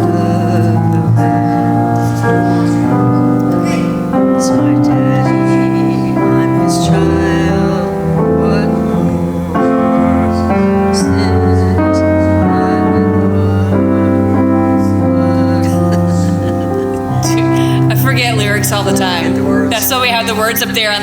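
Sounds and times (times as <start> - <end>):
piano playing worship song chords: 0.0 - 21.0.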